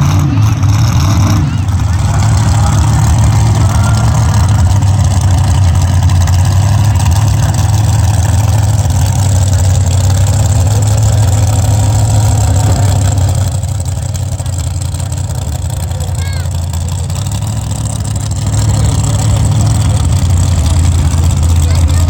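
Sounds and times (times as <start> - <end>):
truck engine running loud: 0.0 - 22.0.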